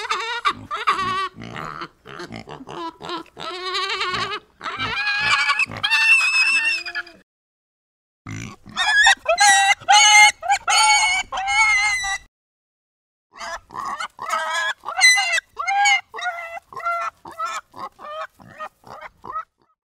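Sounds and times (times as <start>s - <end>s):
pig squealing: 0.0s - 7.2s, 8.3s - 12.3s, 13.4s - 19.7s.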